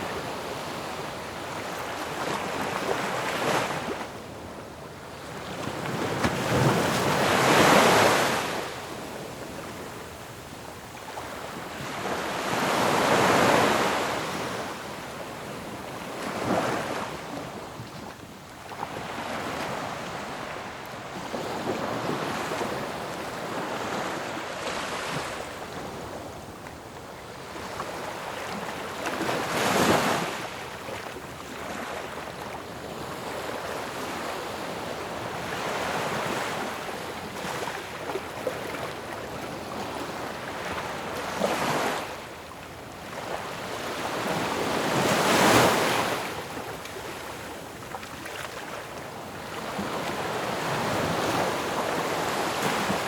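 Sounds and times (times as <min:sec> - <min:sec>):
ocean waves crashing on shore: 0:00.0 - 0:17.8, 0:18.7 - 0:53.0.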